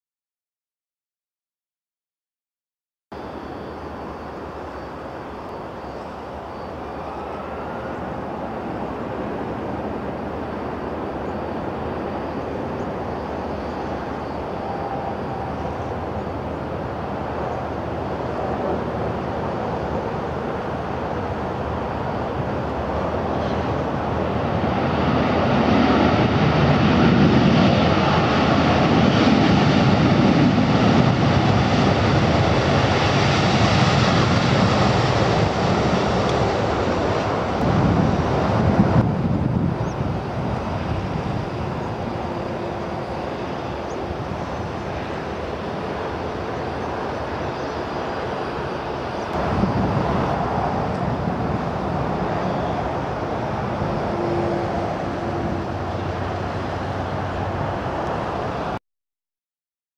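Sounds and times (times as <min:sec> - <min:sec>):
jet engine noise: 0:03.1 - 0:58.8
low rumble of airliner rolling: 0:03.2 - 0:58.8.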